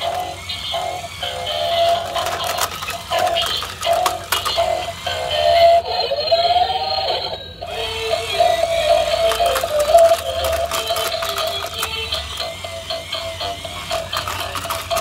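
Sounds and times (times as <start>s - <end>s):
toy mechanism clicks: 0.0s - 15.0s.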